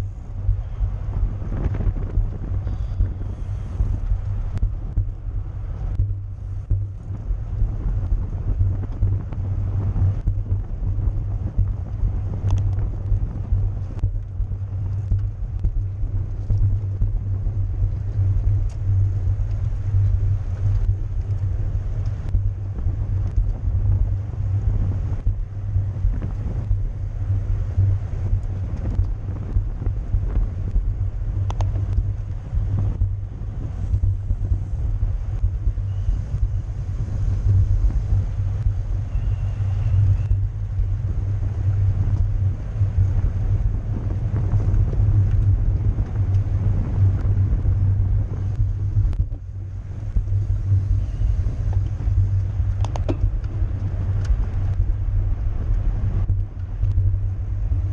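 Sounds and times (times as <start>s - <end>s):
wind rushing over microphone: 0.0s - 57.9s.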